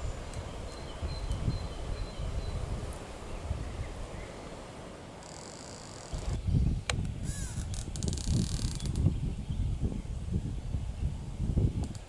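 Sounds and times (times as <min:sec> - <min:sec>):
distant birdsong whistles: 0:00.0 - 0:11.8.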